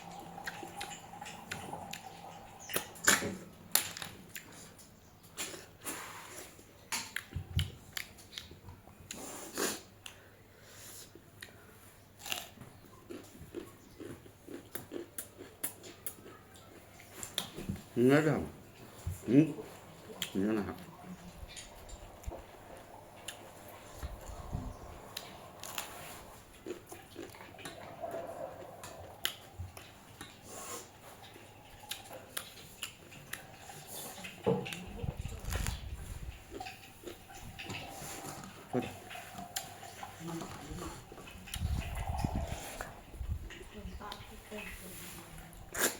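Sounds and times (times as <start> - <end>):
person chewing food: 0.0 - 43.8.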